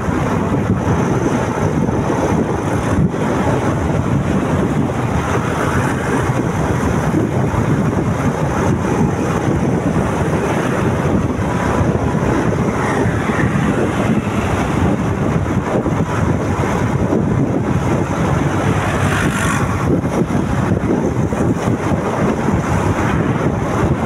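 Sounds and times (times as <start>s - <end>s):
road noise: 0.0s - 24.0s
wind rushing on microphone: 0.0s - 24.0s.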